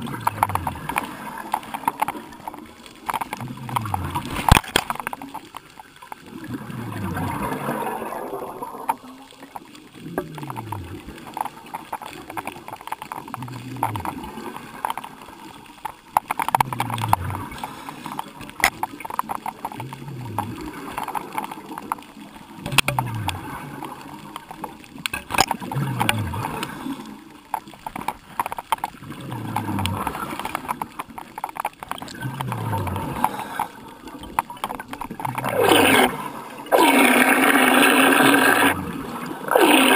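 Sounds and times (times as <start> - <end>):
bubbles gurgling underwater: 0.0 - 39.9
clicks and knocks underwater: 0.0 - 39.9.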